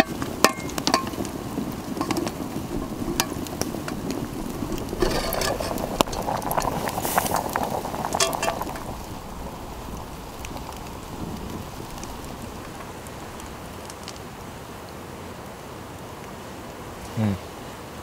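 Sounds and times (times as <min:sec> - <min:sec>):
campfire crackling: 0:00.0 - 0:18.0
steady hiss: 0:00.0 - 0:18.0.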